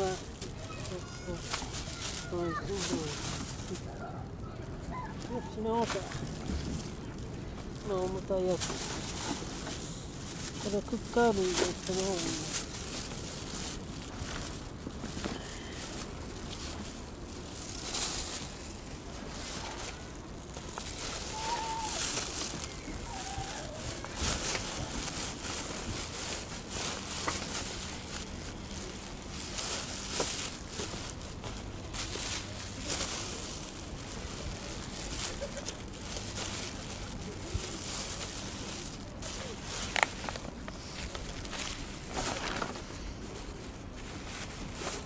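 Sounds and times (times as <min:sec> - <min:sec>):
plastic bag rustling: 0:00.0 - 0:45.0.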